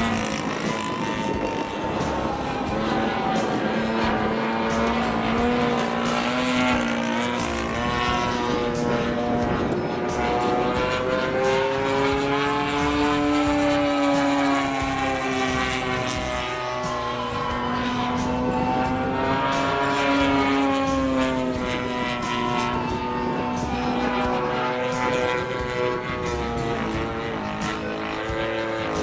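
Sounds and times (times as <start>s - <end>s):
model aircraft engine buzzing: 0.0s - 29.0s.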